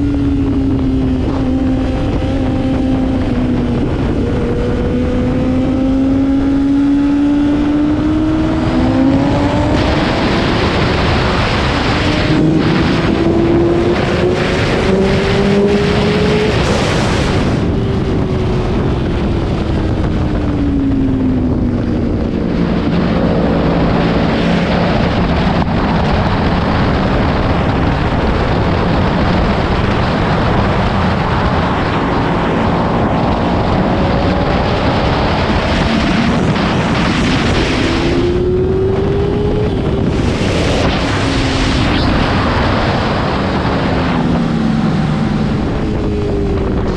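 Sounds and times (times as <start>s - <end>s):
motorcycle engine revving: 0.0s - 46.9s
wind noise on microphone: 0.0s - 46.9s.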